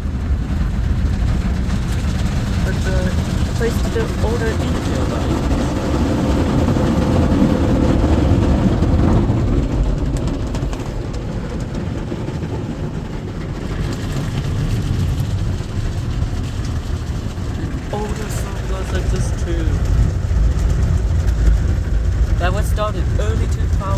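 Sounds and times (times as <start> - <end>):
car wash water and machinery: 0.0 - 23.9.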